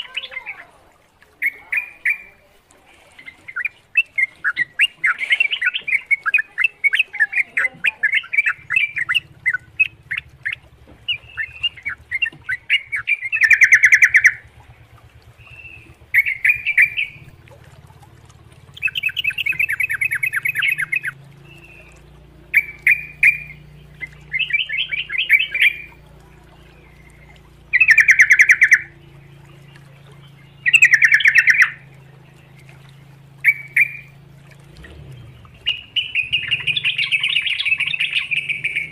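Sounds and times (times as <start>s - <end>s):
bird singing bubbling chatter: 0.0s - 38.9s.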